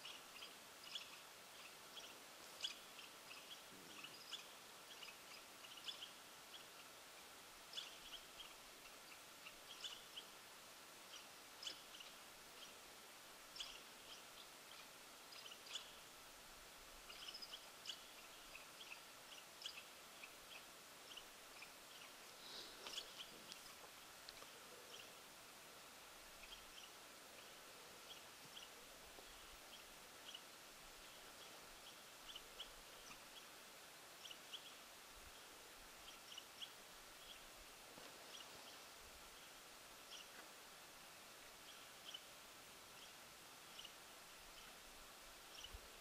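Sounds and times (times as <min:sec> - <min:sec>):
open country hiss: 0:00.0 - 0:46.0
small birds chirping: 0:00.0 - 0:46.0.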